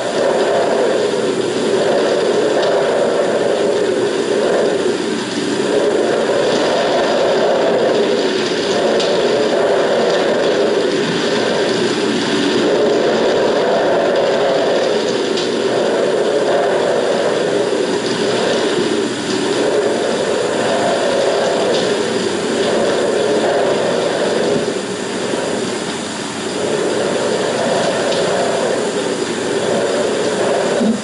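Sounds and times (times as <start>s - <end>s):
film soundtrack hiss: 0.0s - 31.0s.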